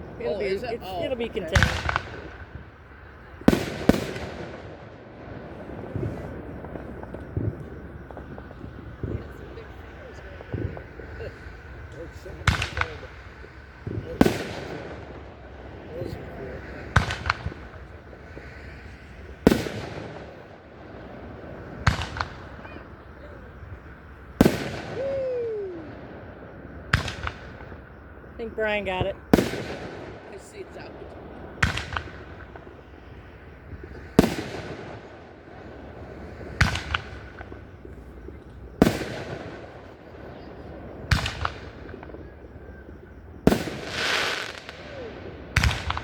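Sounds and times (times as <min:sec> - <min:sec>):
firework bangs: 0:00.0 - 0:46.0
long decaying hiss: 0:00.0 - 0:46.0.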